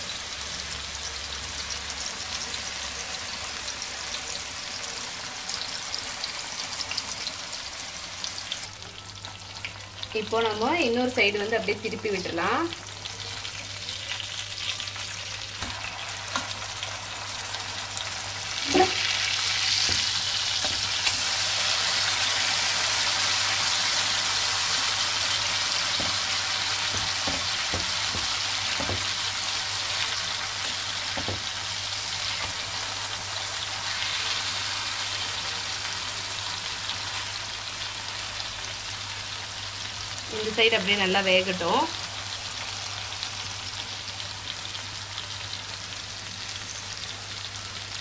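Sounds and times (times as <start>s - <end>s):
fish sizzling in oil: 0.0s - 48.0s.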